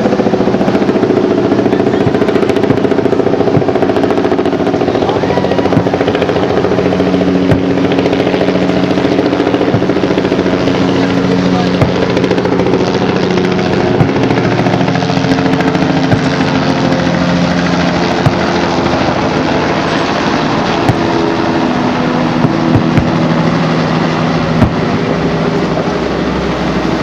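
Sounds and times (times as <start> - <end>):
distant fireworks popping: 0.0 - 27.0
loud steady rumble: 0.0 - 27.0.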